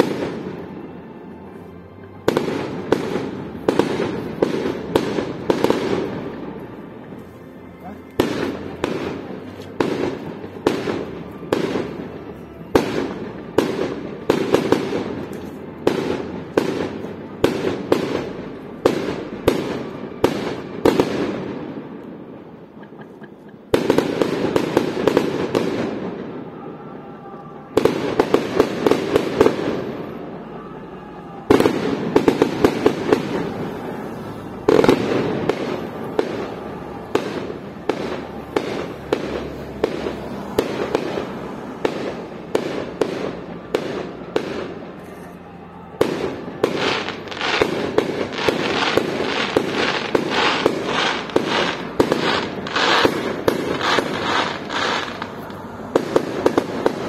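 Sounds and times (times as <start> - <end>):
fireworks bangs and crackle: 0.0 - 27.0, 27.7 - 57.0.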